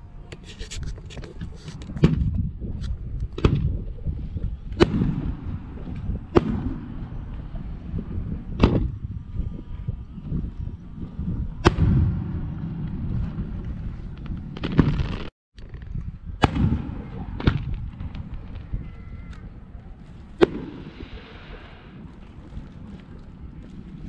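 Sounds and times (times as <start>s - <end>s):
low rumbling echo: 2.0s - 24.0s.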